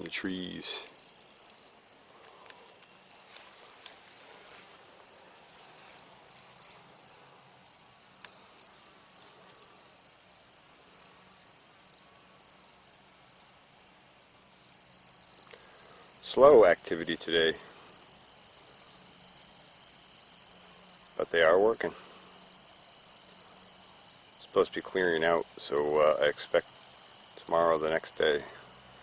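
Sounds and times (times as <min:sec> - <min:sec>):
crickets chirping: 0:00.0 - 0:29.0
high insect trill: 0:00.0 - 0:29.0.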